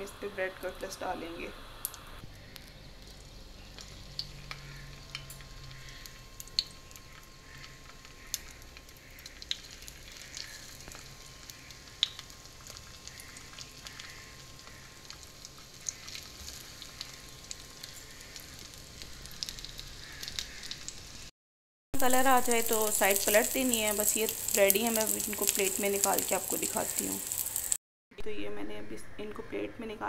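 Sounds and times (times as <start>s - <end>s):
oil sizzling in a pan: 0.0s - 21.3s, 22.0s - 27.8s.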